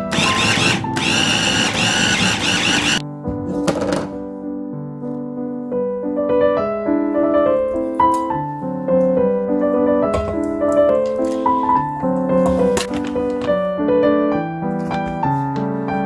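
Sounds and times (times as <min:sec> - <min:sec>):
solo piano waltz: 0:03.0 - 0:16.0.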